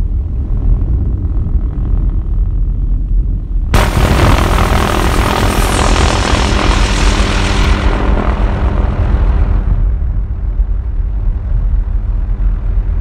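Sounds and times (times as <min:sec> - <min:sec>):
aircraft engine rumble: 0:00.0 - 0:13.0
wind noise rush: 0:00.0 - 0:13.0.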